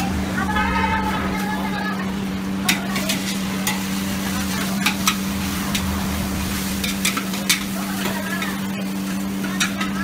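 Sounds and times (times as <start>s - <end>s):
frying sizzle: 0.0s - 10.0s
metal utensils scraping a wok: 0.4s - 10.0s.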